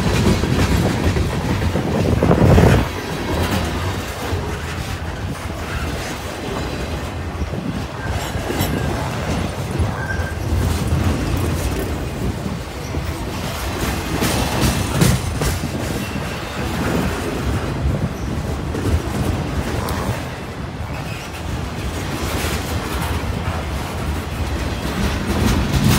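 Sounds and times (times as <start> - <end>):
clatter over rail joints: 0.0 - 25.9
freight train wheels rumbling: 0.0 - 25.9.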